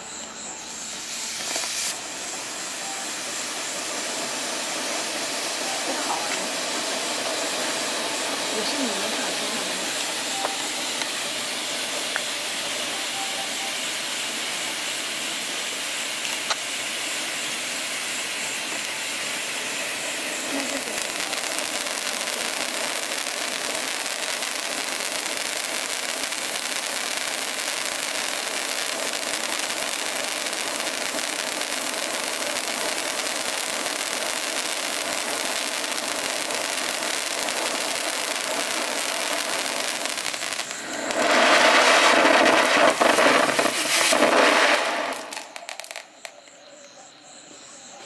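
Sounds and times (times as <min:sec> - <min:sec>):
firework fountain hissing: 0:00.0 - 0:46.6.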